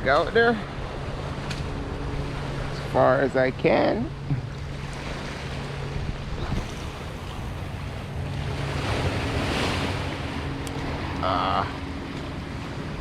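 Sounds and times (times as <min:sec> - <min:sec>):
wind buffeting microphone: 0:00.0 - 0:11.2
surf washing on shore: 0:00.0 - 0:13.0.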